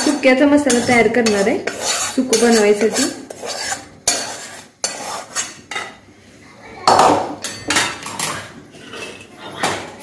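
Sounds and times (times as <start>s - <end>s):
metal spoon scraping a pan: 0.0s - 6.0s, 7.4s - 10.0s.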